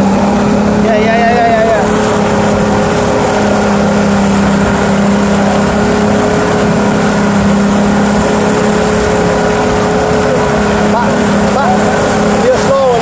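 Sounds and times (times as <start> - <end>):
churning water of wake: 0.0 - 13.0
outboard motor humming: 0.0 - 13.0.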